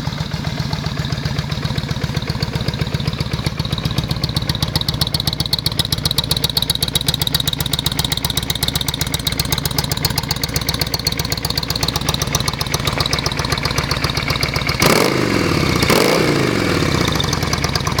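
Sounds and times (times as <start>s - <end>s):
motorcycle engine idling: 0.0s - 18.0s
motorcycle engine revving: 0.0s - 18.0s.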